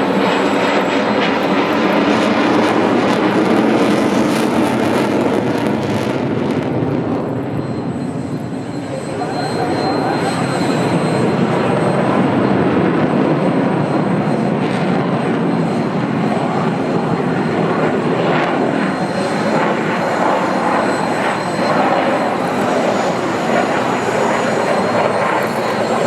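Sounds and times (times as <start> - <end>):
jet engine roaring: 0.0 - 26.0.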